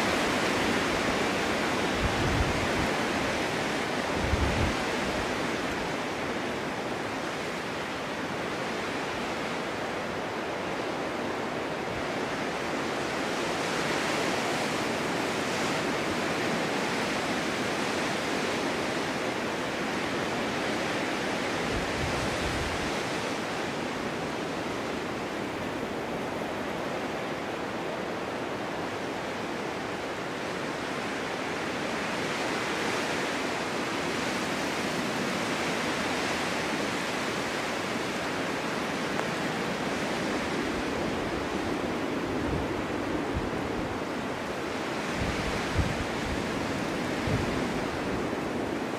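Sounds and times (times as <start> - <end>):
snowstorm wind hissing: 0.0 - 48.9.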